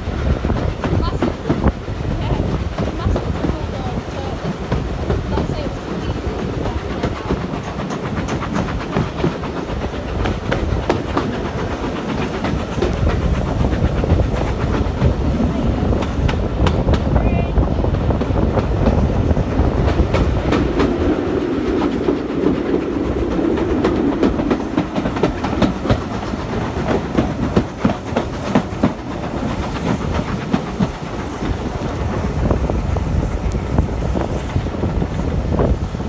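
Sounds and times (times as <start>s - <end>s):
train running gear rumble: 0.0s - 36.0s
wheels clicking over rail joints: 0.0s - 36.0s.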